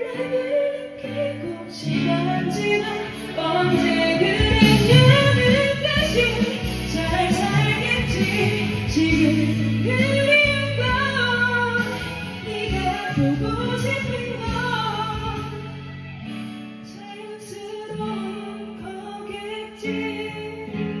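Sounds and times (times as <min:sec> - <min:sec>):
karaoke backing track: 0:00.0 - 0:21.0
woman singing: 0:00.0 - 0:21.0.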